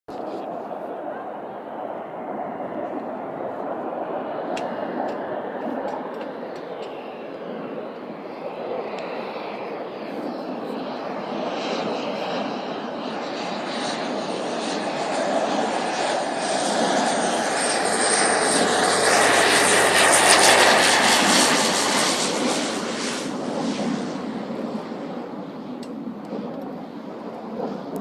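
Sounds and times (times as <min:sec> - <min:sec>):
propeller aircraft engine: 0:00.1 - 0:28.0.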